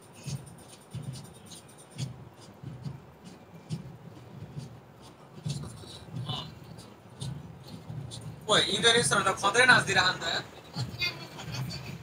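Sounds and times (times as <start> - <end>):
faint drumbeat of low thumps: 0.2 - 12.0.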